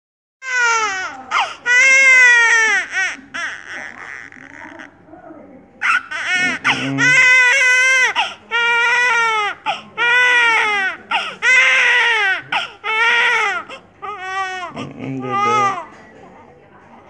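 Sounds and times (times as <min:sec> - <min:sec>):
newborn baby crying: 0:00.4 - 0:05.0, 0:05.8 - 0:16.0.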